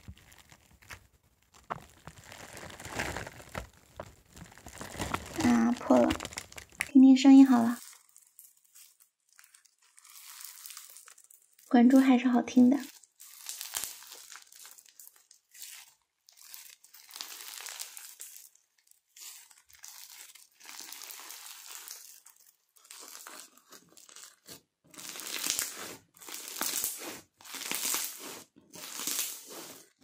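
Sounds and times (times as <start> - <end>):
slime crackling as hands squeeze: 0.0 - 29.9.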